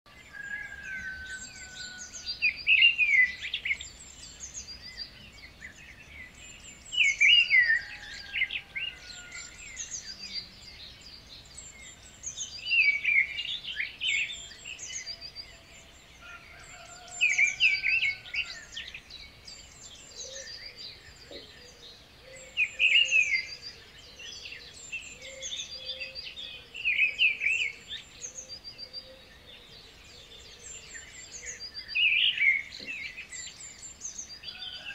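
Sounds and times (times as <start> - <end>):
birds singing and chirping: 0.1 - 34.9.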